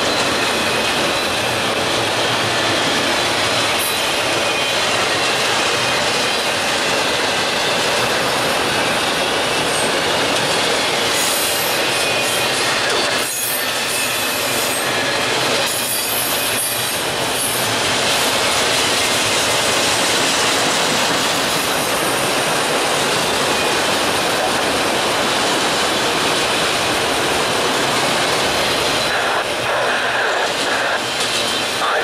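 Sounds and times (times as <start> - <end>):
steel wheels running on rails: 0.0 - 32.0.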